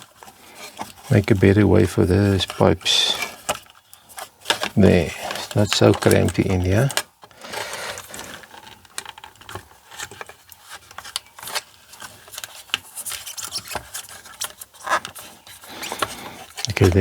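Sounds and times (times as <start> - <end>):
small clicks taps and scraping: 2.4 - 17.0.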